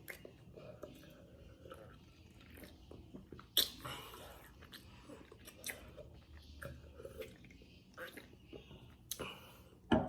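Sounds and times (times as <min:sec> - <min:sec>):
person chewing food: 0:00.0 - 0:09.9.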